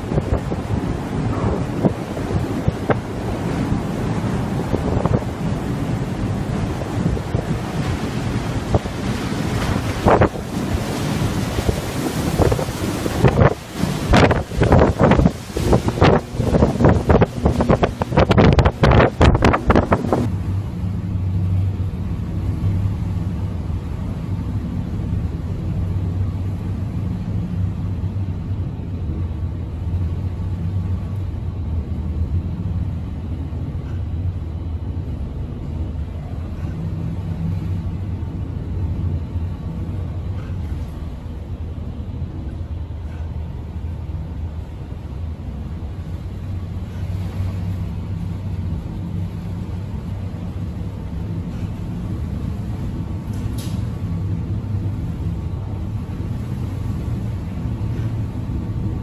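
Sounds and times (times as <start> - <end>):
ship wheelhouse rumble and hum: 0.0 - 59.0.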